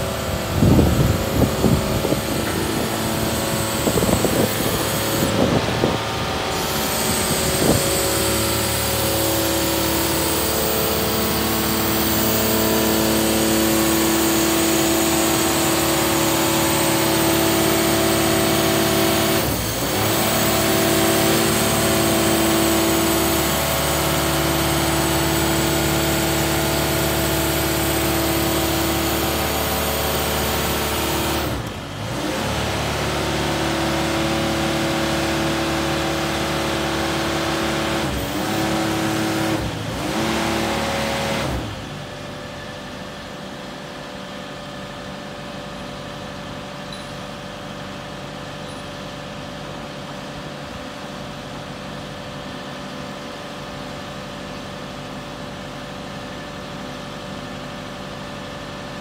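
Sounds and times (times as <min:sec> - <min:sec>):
engine and hydraulic pump droning: 0:00.0 - 0:59.0.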